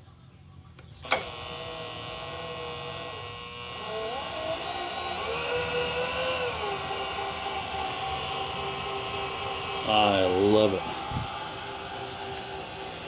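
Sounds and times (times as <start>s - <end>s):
electric motor whining: 1.0s - 13.0s.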